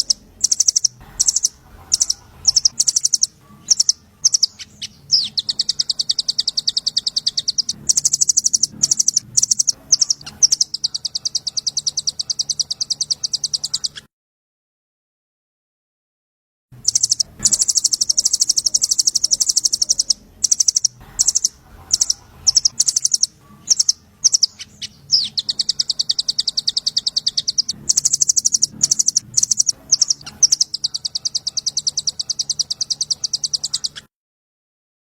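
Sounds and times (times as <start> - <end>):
songbird chirping trill: 0.0 - 14.1, 16.8 - 34.1.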